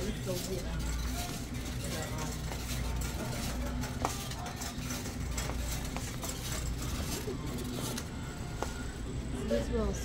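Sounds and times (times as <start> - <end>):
cart clicks and rattles: 0.0 - 8.2
shopping cart wheels rumbling: 0.0 - 10.0.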